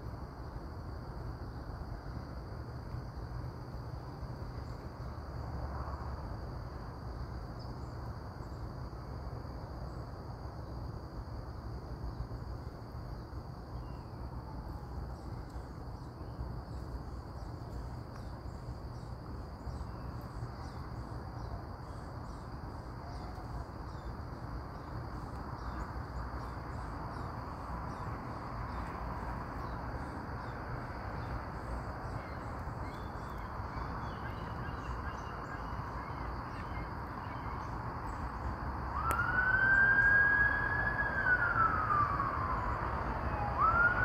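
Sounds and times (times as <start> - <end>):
high insect trill: 0.0 - 44.0.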